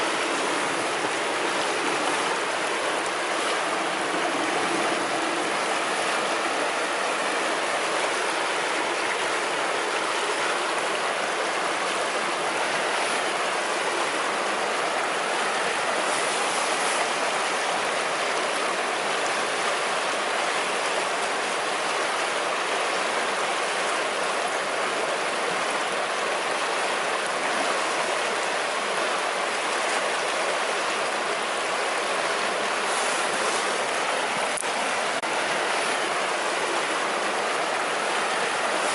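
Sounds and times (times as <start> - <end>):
river water rushing over stones: 0.0 - 38.9.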